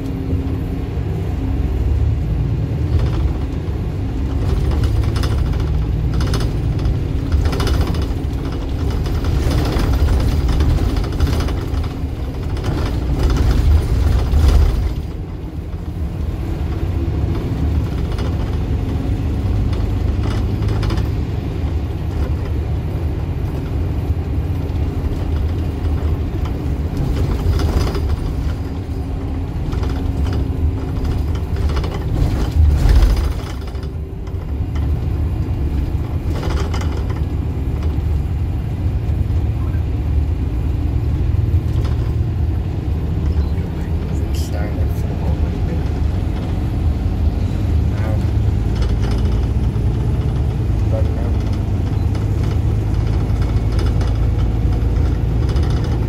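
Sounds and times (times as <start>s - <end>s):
bus engine rumble: 0.0s - 56.0s
interior rattles and knocks: 2.5s - 56.0s.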